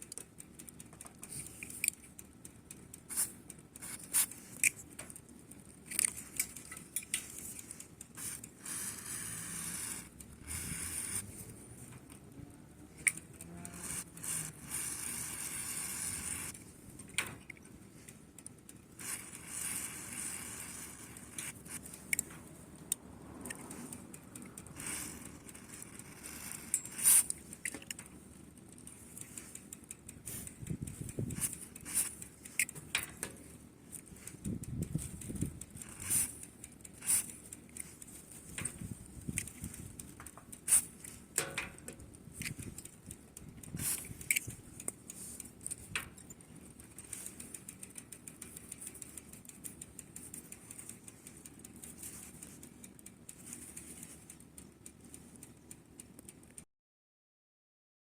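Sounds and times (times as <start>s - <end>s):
clicks and metallic clatter: 0.0s - 9.1s, 12.9s - 56.6s.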